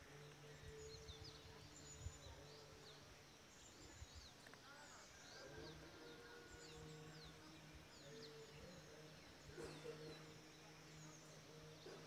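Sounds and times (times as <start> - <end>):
low steady drone: 0.0 - 12.0.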